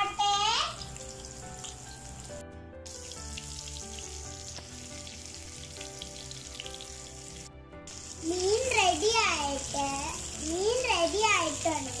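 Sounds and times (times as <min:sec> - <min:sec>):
fish sizzling in a pan: 0:00.0 - 0:12.0
soft background music: 0:00.0 - 0:12.0.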